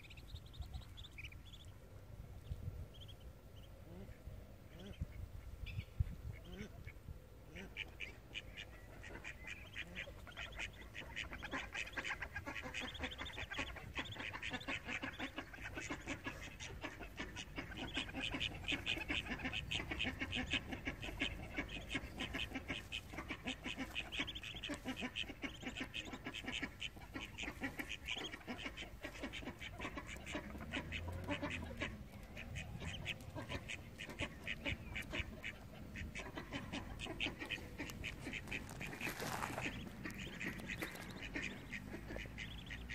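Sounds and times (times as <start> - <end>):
ducks calling: 7.5 - 42.9.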